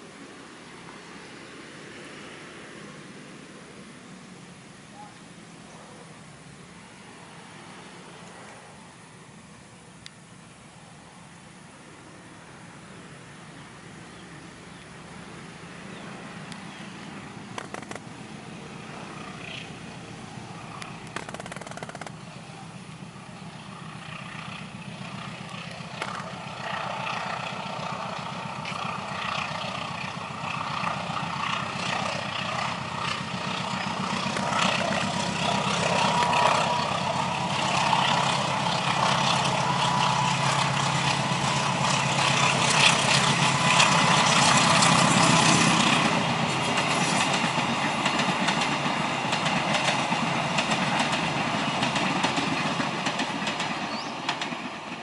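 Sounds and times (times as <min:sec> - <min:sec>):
diesel locomotive engine drone: 0:00.0 - 0:55.0
train running noise: 0:00.0 - 0:55.0.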